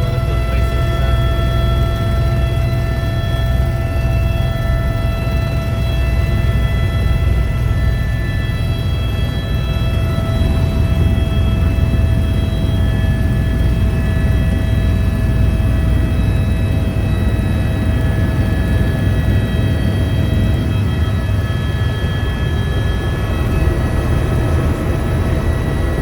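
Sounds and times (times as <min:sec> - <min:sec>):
helicopter engine rumble: 0:00.0 - 0:26.0
high turbine whines: 0:00.0 - 0:26.0.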